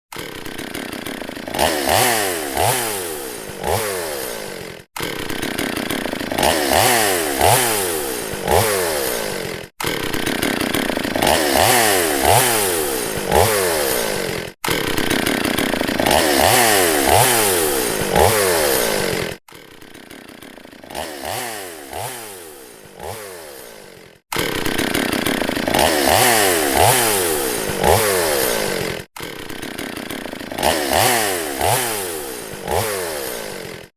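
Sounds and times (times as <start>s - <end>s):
chainsaw revving: 0.1s - 33.9s.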